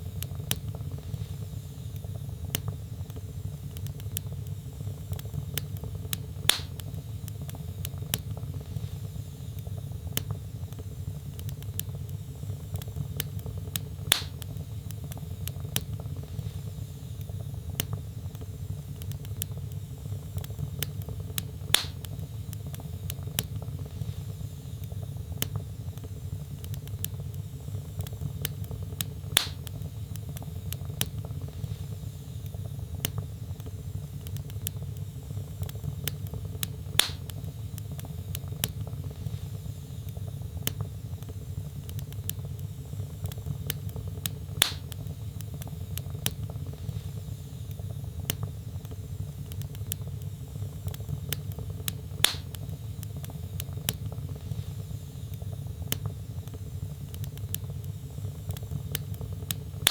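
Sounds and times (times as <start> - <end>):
low rumble of flames: 0.0 - 59.9
wood fire crackling: 0.0 - 59.9
loud fire pops: 0.1 - 9.0, 10.0 - 59.9.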